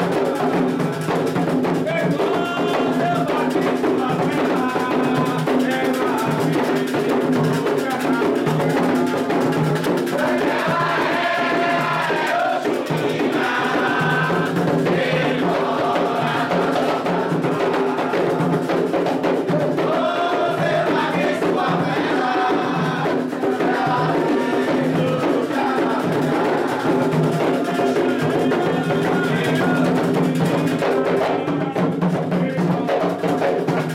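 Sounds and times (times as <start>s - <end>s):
group singing call-and-response: 0.0s - 33.9s
hand drums playing rhythm: 0.0s - 33.9s.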